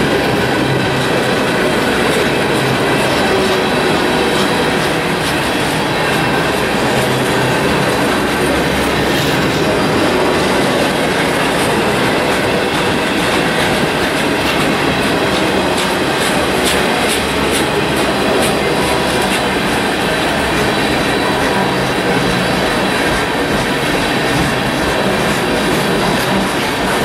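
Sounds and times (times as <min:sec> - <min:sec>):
freight train wheels rumbling on rails: 0:00.0 - 0:27.0.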